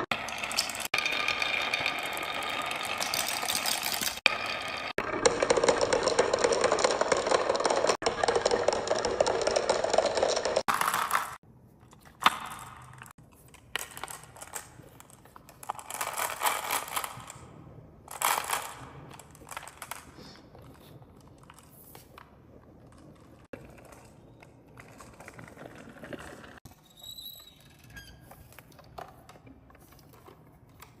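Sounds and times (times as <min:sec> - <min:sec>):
toys clattering and rattling: 0:00.0 - 0:17.5, 0:18.1 - 0:26.8.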